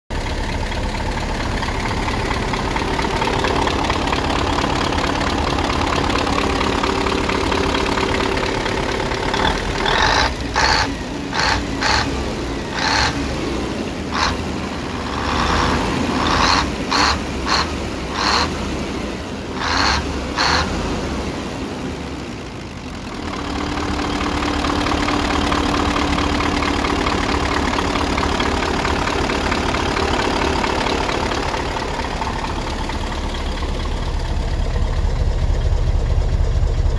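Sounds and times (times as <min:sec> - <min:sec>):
diesel engine idling and revving: 0:00.1 - 0:36.9.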